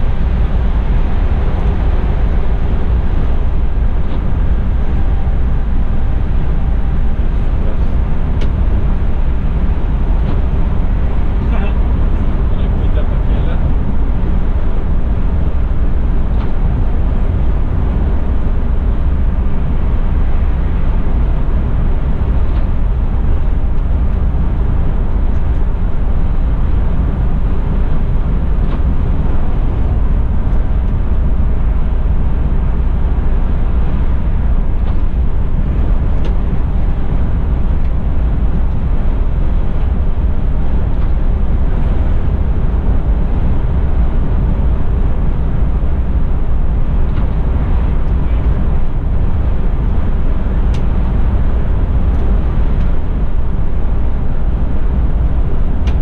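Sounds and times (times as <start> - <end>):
coach engine drone: 0.0 - 56.0.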